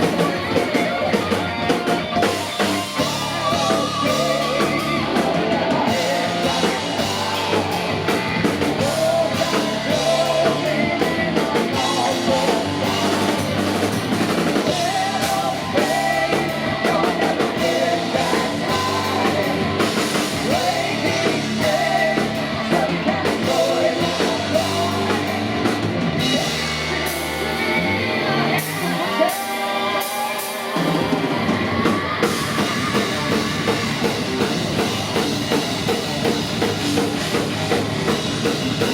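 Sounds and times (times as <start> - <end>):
heavy metal band playing live: 0.0 - 38.9.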